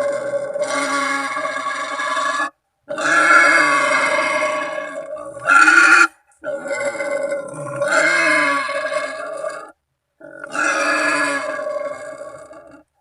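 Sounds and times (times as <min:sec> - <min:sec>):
wild boar squealing: 0:00.0 - 0:12.9.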